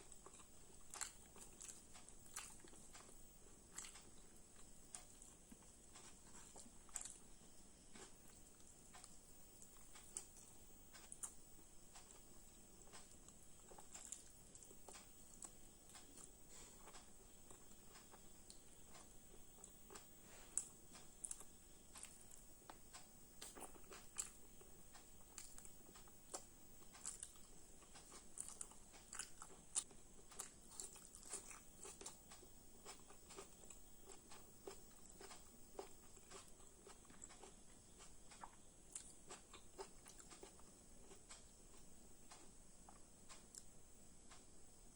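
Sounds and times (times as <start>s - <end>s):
person chewing: 0.0s - 43.7s.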